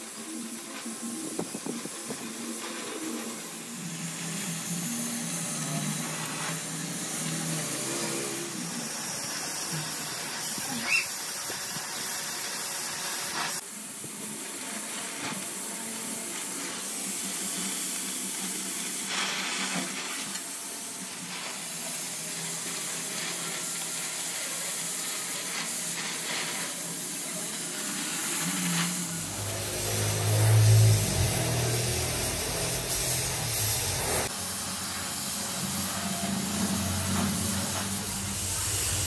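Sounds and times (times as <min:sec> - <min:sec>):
gas torch flame hissing: 0:00.0 - 0:39.0.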